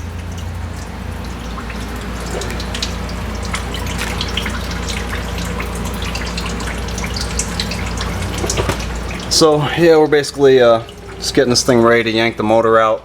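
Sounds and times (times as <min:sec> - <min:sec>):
fluid dripping and trickling: 0:00.0 - 0:13.0
steady low hum: 0:00.0 - 0:13.0.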